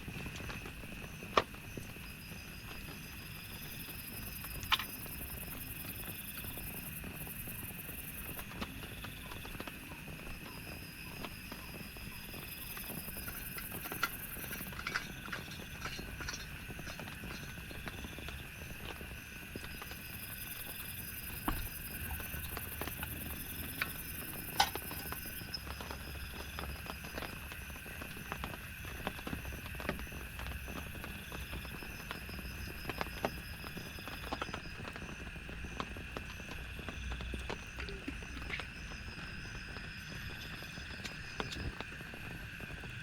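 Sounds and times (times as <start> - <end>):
rain pattering: 0.0 - 43.0.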